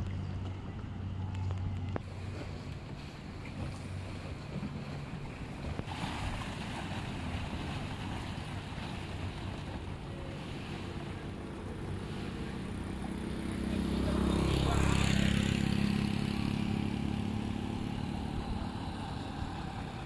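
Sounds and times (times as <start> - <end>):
water lapping at shore and dock: 0.0 - 20.0.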